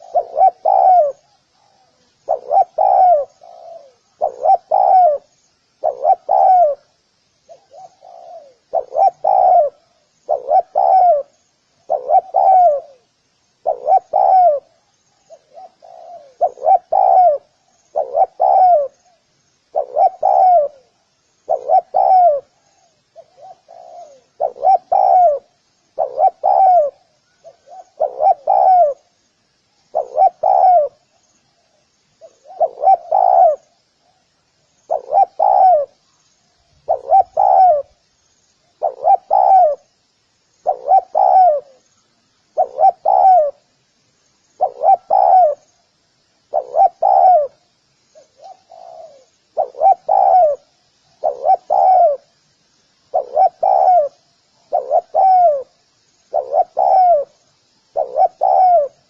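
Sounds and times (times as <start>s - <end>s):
dove cooing: 0.0s - 29.1s, 29.9s - 34.2s, 34.9s - 36.2s, 36.8s - 38.1s, 38.7s - 39.9s, 40.6s - 41.9s, 42.5s - 43.7s, 44.6s - 45.8s, 46.5s - 52.4s, 53.1s - 59.0s
small bird chirping: 0.0s - 59.0s.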